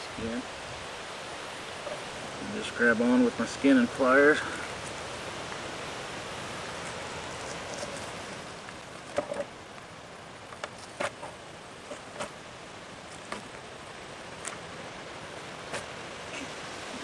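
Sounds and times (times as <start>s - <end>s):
outdoor hiss: 0.0s - 17.0s.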